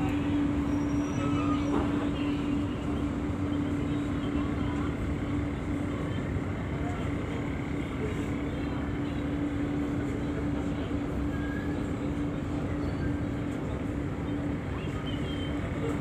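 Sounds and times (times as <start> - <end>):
ferry engines humming: 0.0 - 16.0.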